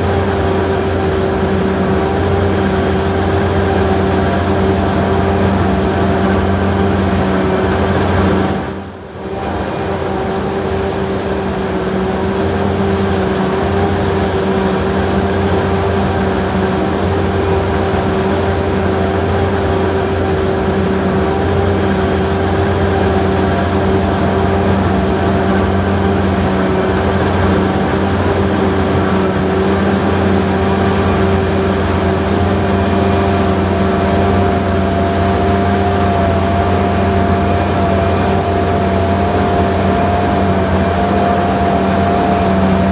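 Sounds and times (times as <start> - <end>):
harvesting machine engine drone: 0.0 - 42.9
high machine whine: 0.0 - 42.9.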